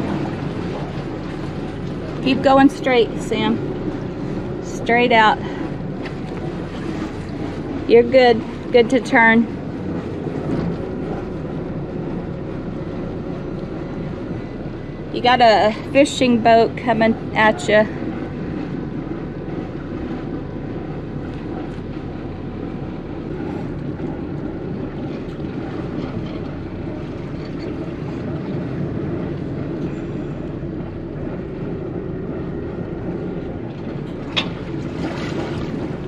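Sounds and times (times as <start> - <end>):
boat engines rumbling: 0.0 - 36.0
water noise: 0.0 - 36.0.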